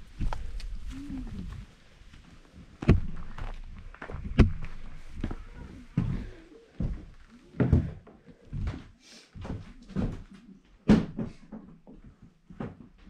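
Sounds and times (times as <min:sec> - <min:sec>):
footsteps on wooden floorboards: 0:00.0 - 0:13.0.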